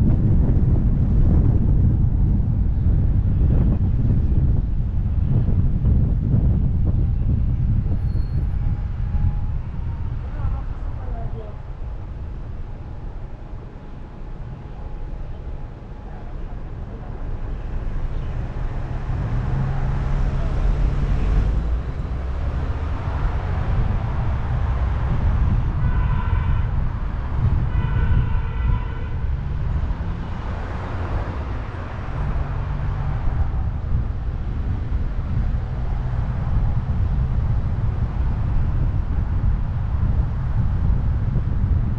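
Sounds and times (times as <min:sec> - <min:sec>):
road rumble: 0:00.0 - 0:41.9
wind noise: 0:00.0 - 0:41.9.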